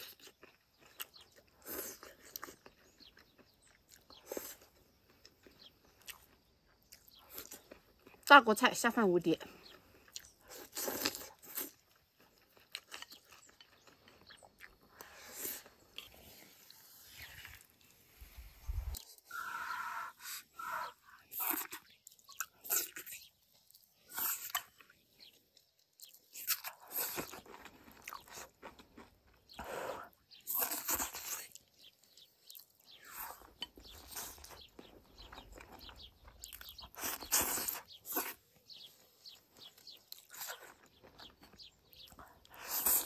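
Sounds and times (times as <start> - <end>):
person chewing food: 0.0 - 8.3, 9.5 - 43.0.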